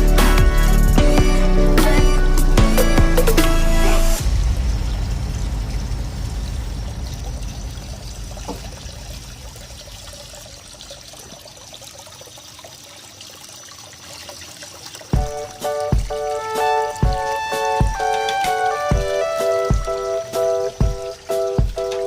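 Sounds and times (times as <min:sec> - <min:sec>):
waterfall splashing into pond: 0:02.8 - 0:22.0.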